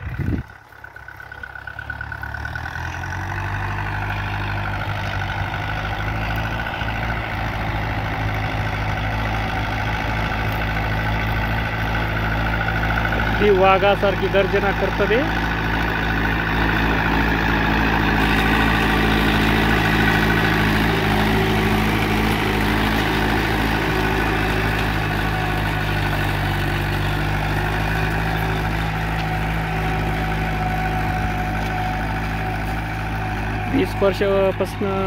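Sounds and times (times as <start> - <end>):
tractor diesel engine roaring: 0.0 - 35.0.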